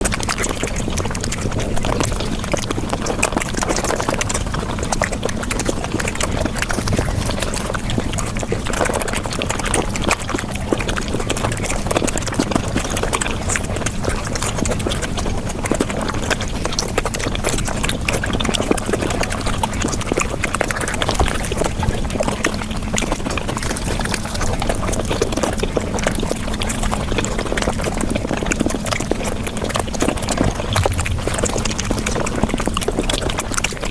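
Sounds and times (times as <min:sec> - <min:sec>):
person chewing and smacking: 0:00.0 - 0:33.9.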